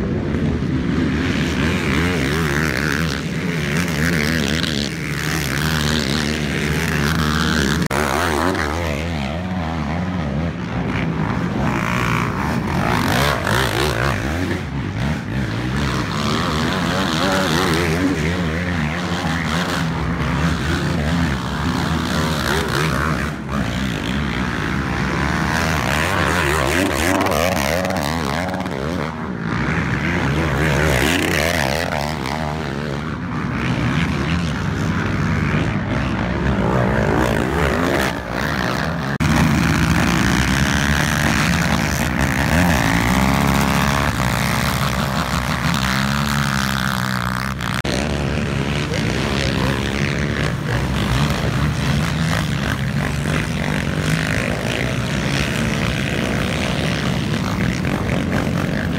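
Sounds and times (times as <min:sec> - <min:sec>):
quad engines revving: 0:00.0 - 0:58.9.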